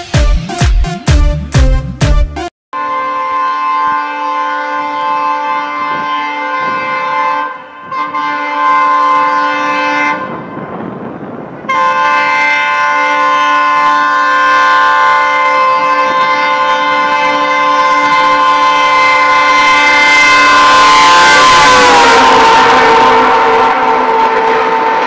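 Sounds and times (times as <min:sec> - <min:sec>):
locomotive horn blasts: 0:02.7 - 0:10.9, 0:11.6 - 0:25.0
rushing noise of oncoming train: 0:03.4 - 0:25.0.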